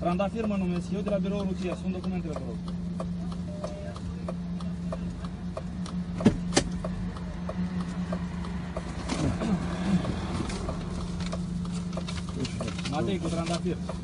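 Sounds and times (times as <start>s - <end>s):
car engine idling hum: 0.0s - 14.0s
car flasher relay ticking: 0.0s - 14.0s.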